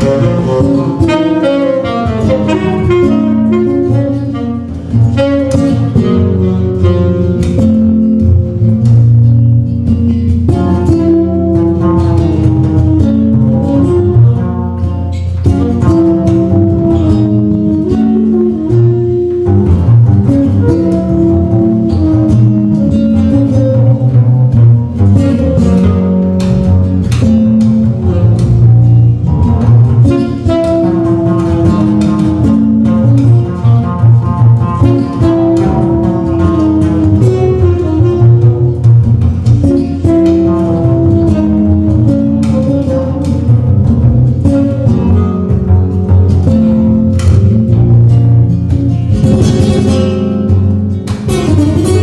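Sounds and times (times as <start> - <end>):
busy bass line: 0.0 - 52.0
quick plucked notes: 0.0 - 52.0.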